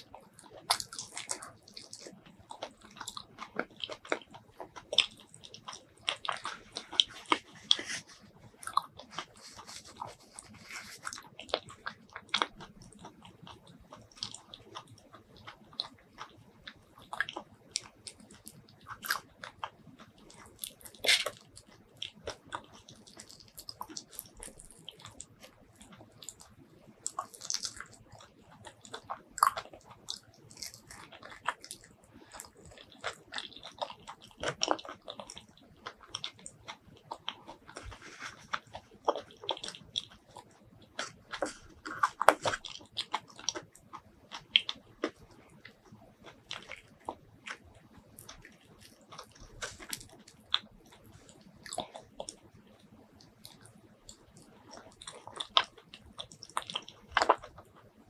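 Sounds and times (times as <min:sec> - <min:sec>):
biting and chewing soft fruit: 0:00.0 - 0:58.0.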